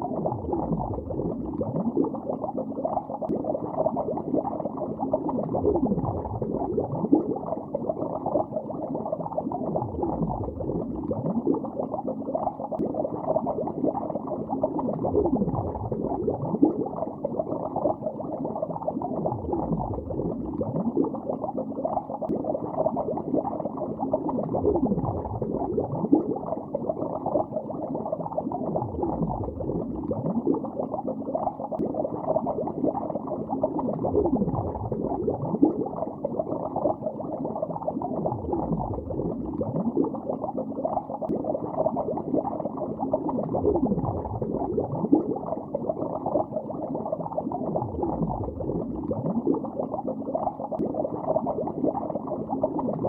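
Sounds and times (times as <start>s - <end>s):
muffled underwater bubbling: 0.0s - 53.0s.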